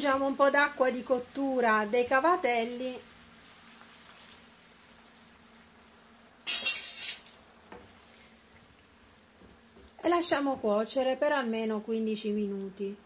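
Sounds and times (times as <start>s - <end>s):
frying food sizzling: 0.0s - 13.0s
water sizzling in hot pan: 0.0s - 13.0s.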